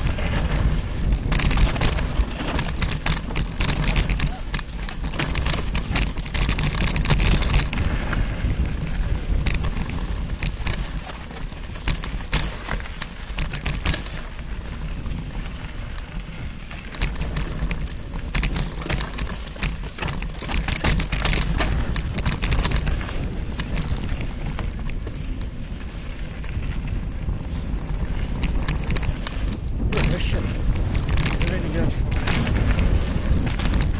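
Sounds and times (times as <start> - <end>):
bike rattling over stones: 0.0 - 33.9
wind and tyres on dirt: 0.0 - 33.9.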